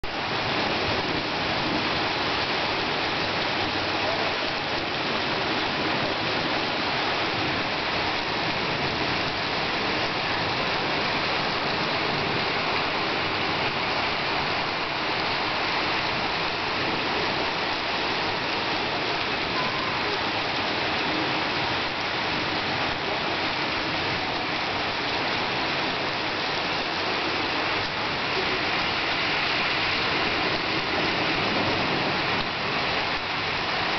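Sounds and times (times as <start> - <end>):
heavy rain on pavement: 0.0 - 33.9.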